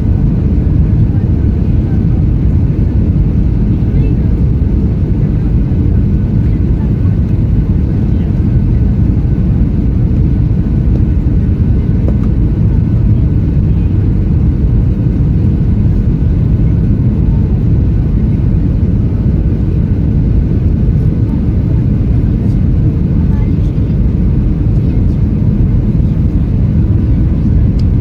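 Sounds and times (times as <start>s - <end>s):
airliner low rumble: 0.0s - 28.0s.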